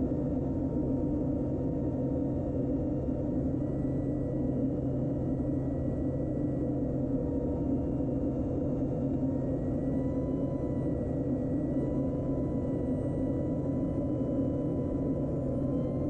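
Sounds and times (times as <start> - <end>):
turboprop engine droning: 0.0 - 16.0.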